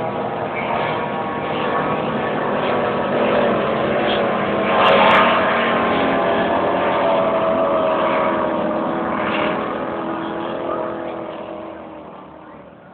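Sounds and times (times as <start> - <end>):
powerboat engine droning: 0.0 - 12.9.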